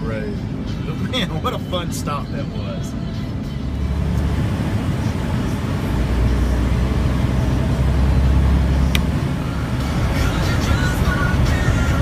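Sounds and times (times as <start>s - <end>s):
diesel truck engine rumbling: 0.0s - 12.0s
road noise: 0.0s - 12.0s.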